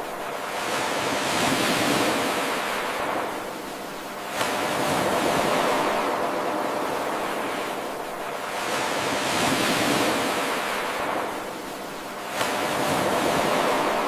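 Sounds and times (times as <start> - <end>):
ocean waves washing ashore: 0.0 - 14.0.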